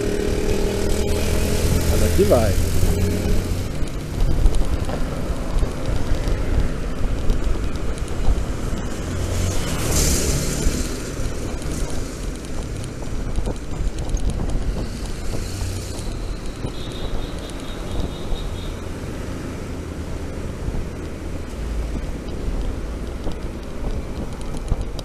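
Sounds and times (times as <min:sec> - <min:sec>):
road and traffic noise: 0:00.0 - 0:25.0
wind rushing over microphone: 0:00.0 - 0:25.0.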